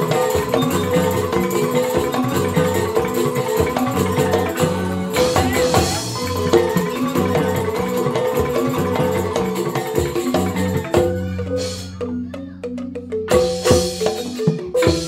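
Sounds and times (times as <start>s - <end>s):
bamboo xylophone gamelan music: 0.0s - 15.0s
percussion: 0.0s - 15.0s.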